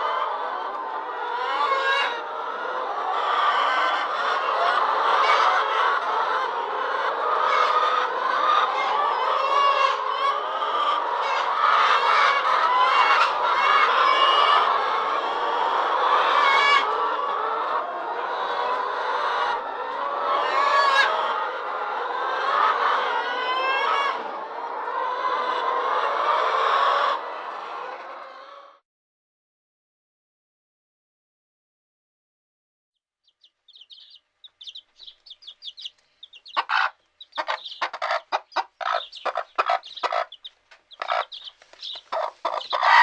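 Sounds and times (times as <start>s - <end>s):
chicks peeping: 0.0s - 28.7s, 33.2s - 43.0s
hen clucking: 0.0s - 28.7s, 33.4s - 43.0s.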